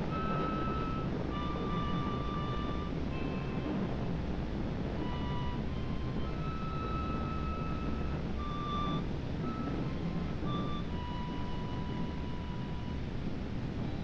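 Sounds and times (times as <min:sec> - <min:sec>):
slow sparse high melody: 0:00.0 - 0:03.8, 0:05.0 - 0:13.0
low rumble and hiss: 0:00.0 - 0:14.0.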